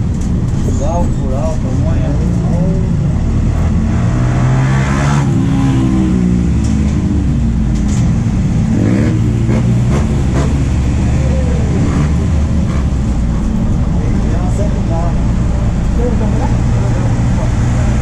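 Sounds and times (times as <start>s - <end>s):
bus diesel engine revving: 2.2s - 18.0s.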